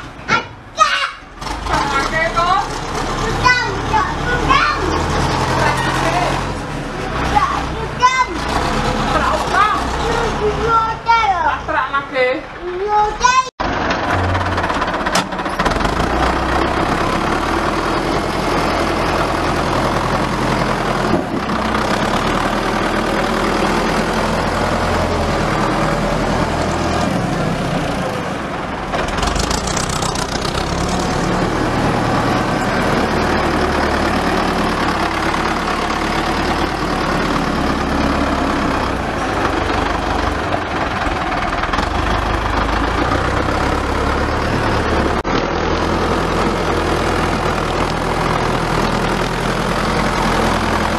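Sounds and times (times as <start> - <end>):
tractor engine running: 1.3 - 11.3, 12.9 - 50.9.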